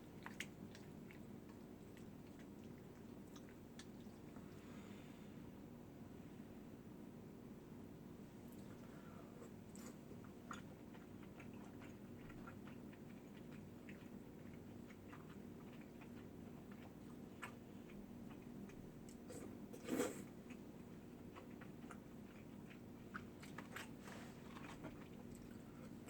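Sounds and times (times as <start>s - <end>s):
chewing and biting food: 0.0s - 4.4s, 9.5s - 26.0s.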